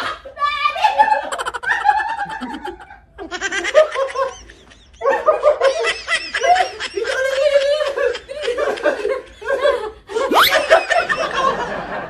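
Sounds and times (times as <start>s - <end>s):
woman laughing hard: 1.0s - 12.0s.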